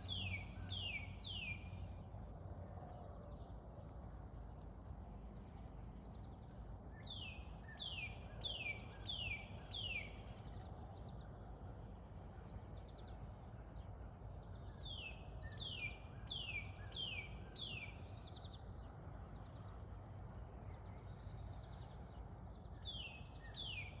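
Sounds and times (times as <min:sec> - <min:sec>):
low outdoor rumble: 0:00.0 - 0:24.0
songbird singing: 0:00.0 - 0:24.0.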